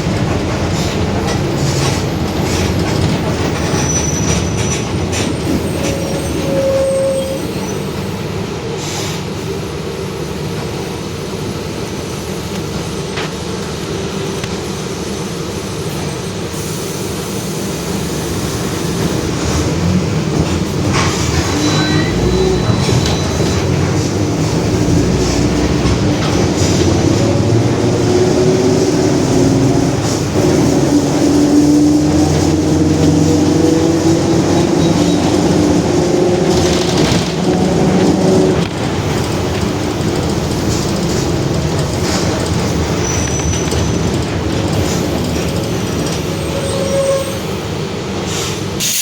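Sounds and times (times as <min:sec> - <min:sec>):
bus engine rumble: 0:00.0 - 0:49.0.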